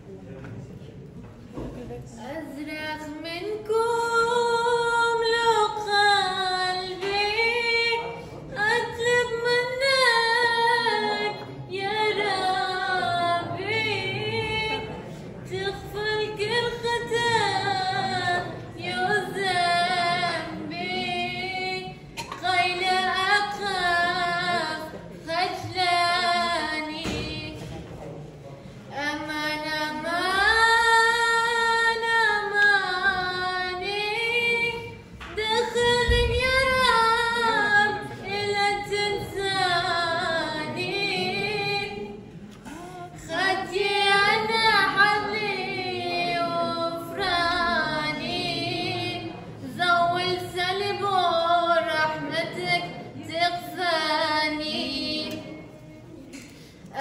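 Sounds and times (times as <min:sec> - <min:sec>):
woman singing into a microphone: 0:02.2 - 0:27.7, 0:28.9 - 0:55.9.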